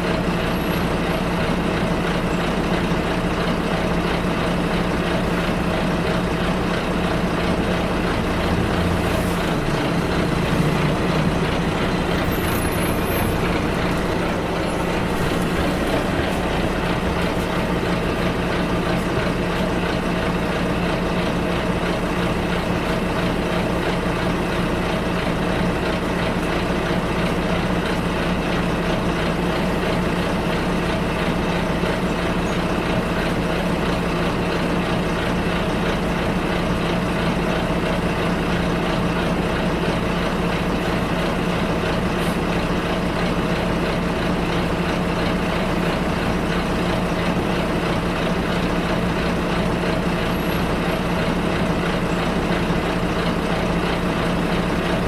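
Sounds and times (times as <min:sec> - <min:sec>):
bus engine hum and road noise: 0:00.0 - 0:55.0.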